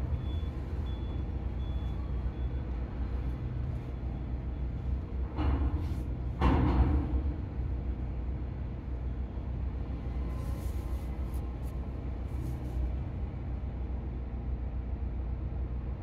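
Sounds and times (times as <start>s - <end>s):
large engine humming: 0.0s - 16.0s.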